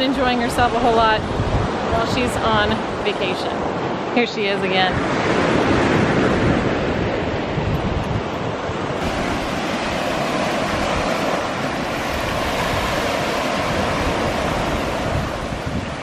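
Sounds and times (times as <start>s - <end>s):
small waves washing on shore: 0.0s - 16.0s
wind rumbling on microphone: 0.0s - 16.0s.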